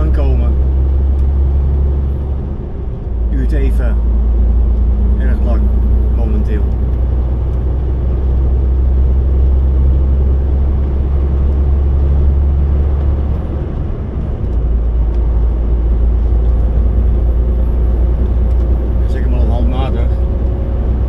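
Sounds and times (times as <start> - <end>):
lorry engine drone: 0.0 - 21.0
road and tyre noise: 0.0 - 21.0.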